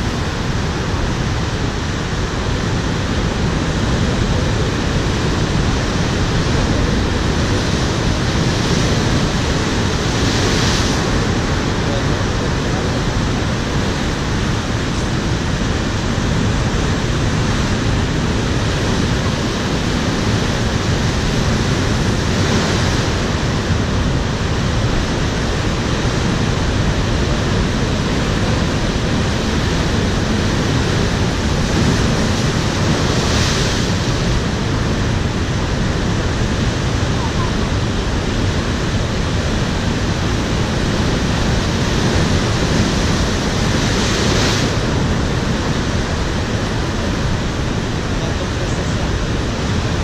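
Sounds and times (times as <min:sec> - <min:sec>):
surf breaking over rocks: 0:00.0 - 0:50.0.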